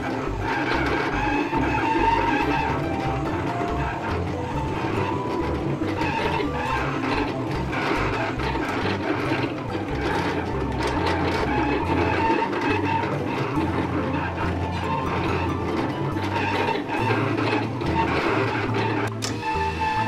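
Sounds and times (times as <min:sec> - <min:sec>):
short motor whines: 0:00.0 - 0:20.0
vinyl cutter motors whirring: 0:00.0 - 0:20.0.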